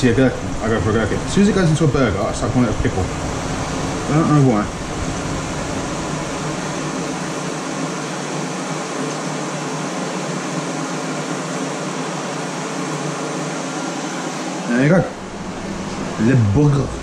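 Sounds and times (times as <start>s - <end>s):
fan rushing noise: 0.0s - 17.0s.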